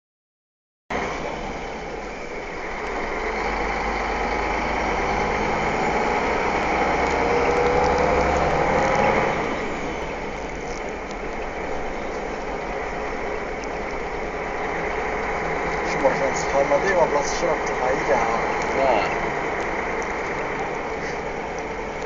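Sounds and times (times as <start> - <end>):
road noise inside vehicle: 0.9 - 22.0
vehicle engine: 0.9 - 22.0.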